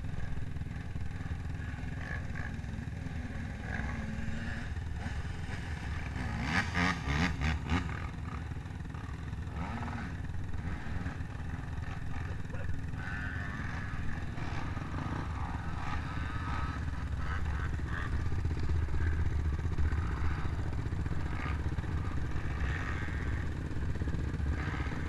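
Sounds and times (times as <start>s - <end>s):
atv engines idling: 0.0s - 25.0s.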